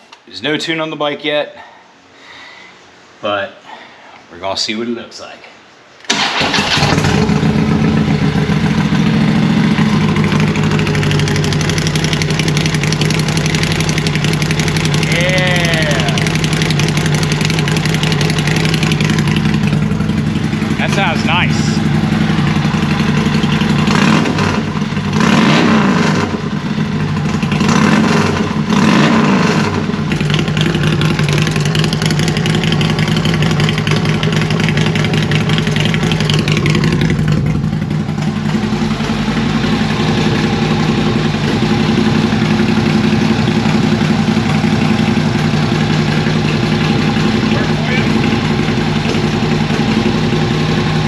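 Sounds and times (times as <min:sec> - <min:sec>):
motorcycle engine blipping and idling: 0:06.1 - 0:25.4, 0:26.2 - 0:28.8, 0:29.7 - 0:51.0.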